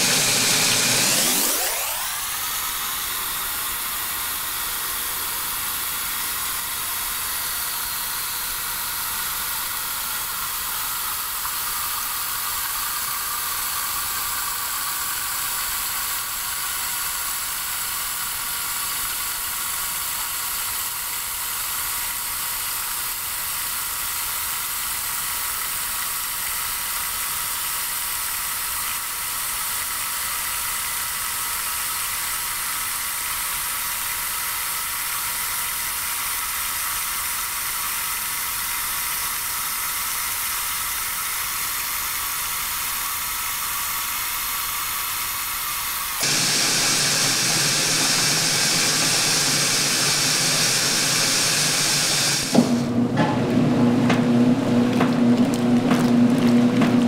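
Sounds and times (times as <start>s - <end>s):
water spraying into washer tub: 0.0s - 57.0s.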